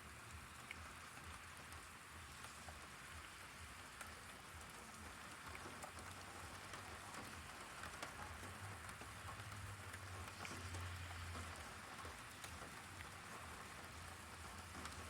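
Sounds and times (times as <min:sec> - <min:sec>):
heavy rain falling: 0:00.1 - 0:15.0.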